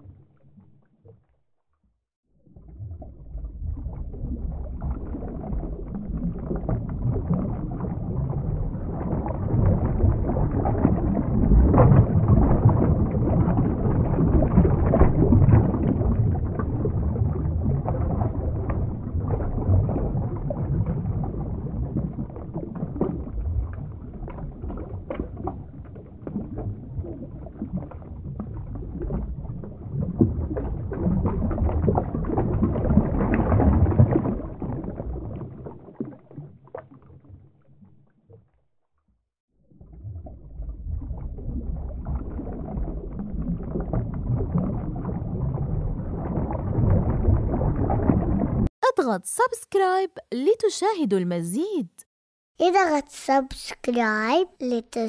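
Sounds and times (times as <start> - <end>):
underwater churning water: 0.0 - 48.7
bubbling and crackle: 0.0 - 52.0, 52.6 - 55.0.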